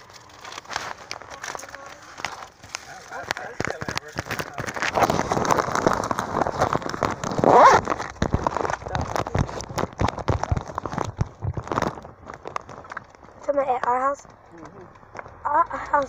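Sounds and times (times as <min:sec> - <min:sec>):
microphone handling crackles: 0:00.0 - 0:16.0.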